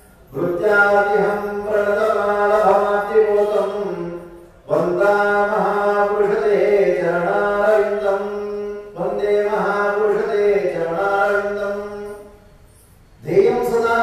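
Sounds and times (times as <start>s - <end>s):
man chanting: 0.2s - 12.4s, 13.2s - 14.0s.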